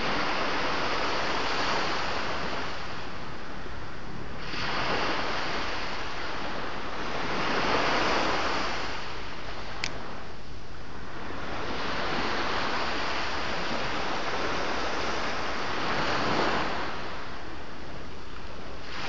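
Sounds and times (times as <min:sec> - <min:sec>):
waves breaking ashore: 0:00.0 - 0:19.0.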